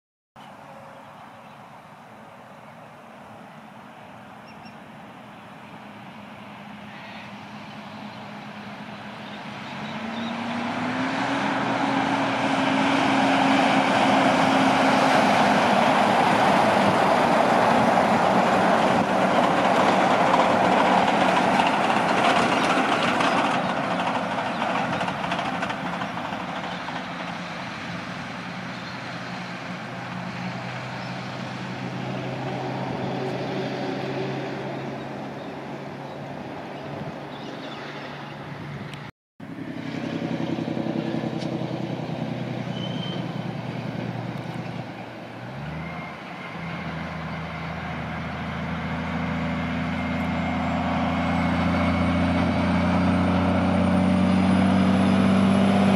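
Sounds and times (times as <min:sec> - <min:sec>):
heavy truck driving past: 0:01.1 - 0:55.9.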